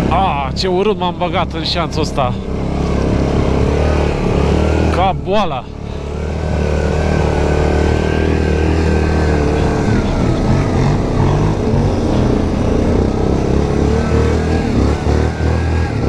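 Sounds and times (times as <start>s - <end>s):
atv engine running under load: 0.0s - 16.0s.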